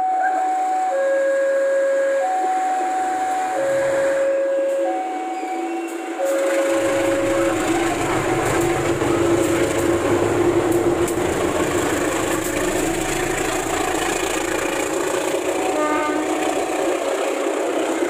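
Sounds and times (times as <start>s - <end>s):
train coaches rolling on rails: 0.0s - 18.0s
locomotive engine passing: 2.2s - 18.0s.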